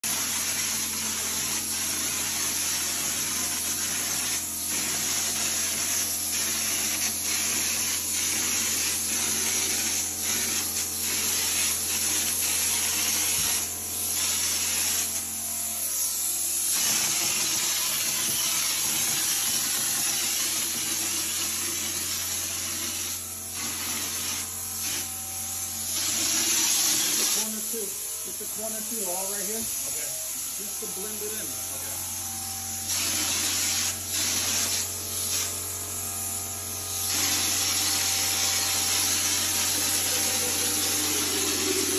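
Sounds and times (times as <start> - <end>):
hopper gun hissing compressed air: 0.1 - 41.9.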